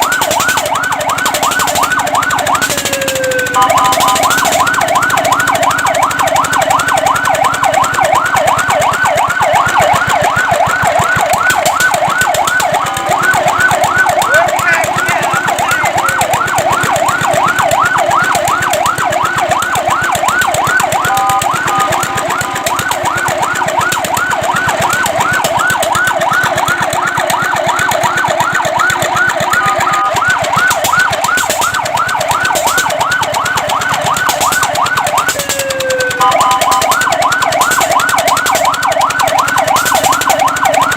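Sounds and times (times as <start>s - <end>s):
fire truck siren yelping: 0.0s - 40.9s.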